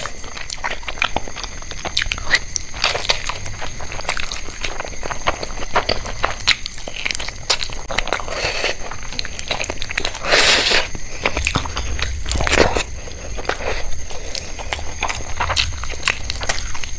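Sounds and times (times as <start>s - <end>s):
chewing with crisp crunching: 0.0s - 16.9s.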